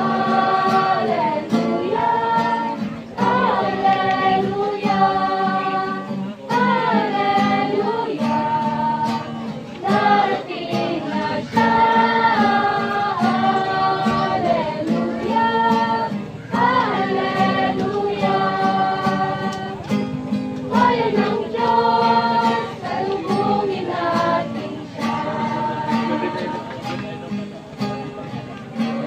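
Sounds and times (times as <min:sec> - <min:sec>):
group of voices singing: 0:00.0 - 0:27.4
acoustic guitar strumming: 0:00.0 - 0:29.0.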